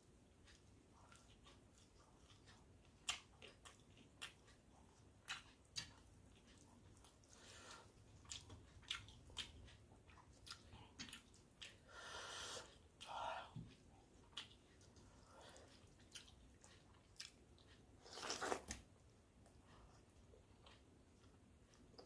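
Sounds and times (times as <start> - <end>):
faint chewing of wet rice: 0.0 - 22.0.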